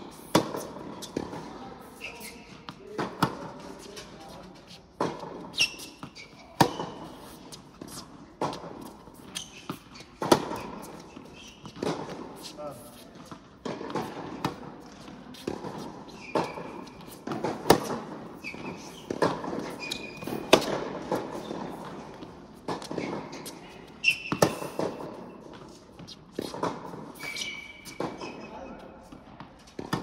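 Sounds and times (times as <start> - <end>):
tennis ball hit by rackets: 0.1 - 1.5, 2.2 - 4.0, 5.0 - 12.6, 13.2 - 28.4
tennis ball bouncing: 0.1 - 4.1, 5.0 - 28.4
shoe squeaks on court: 0.1 - 29.0.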